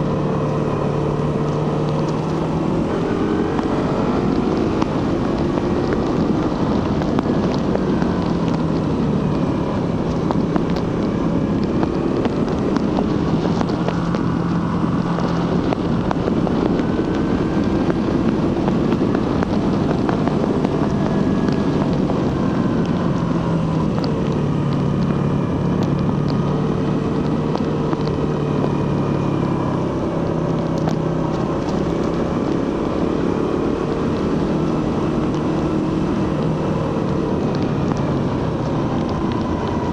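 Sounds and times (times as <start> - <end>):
motorcycle engine revving: 0.0 - 39.9
wind rushing over microphone: 0.0 - 39.9.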